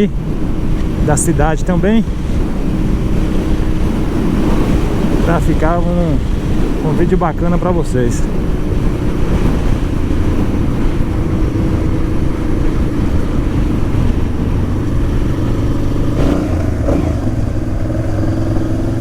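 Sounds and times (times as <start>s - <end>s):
motorcycle engine running: 0.0s - 19.0s
wind rush on microphone: 0.0s - 19.0s.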